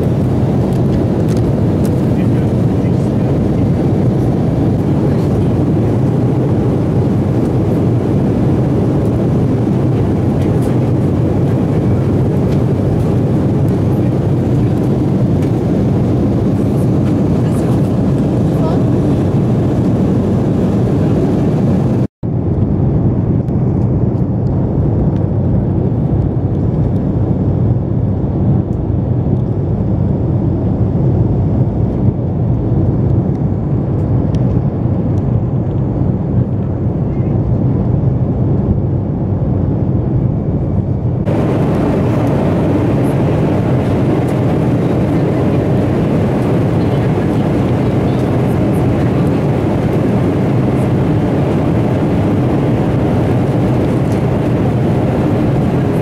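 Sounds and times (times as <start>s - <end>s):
jet engine roar inside cabin: 0.0s - 56.0s.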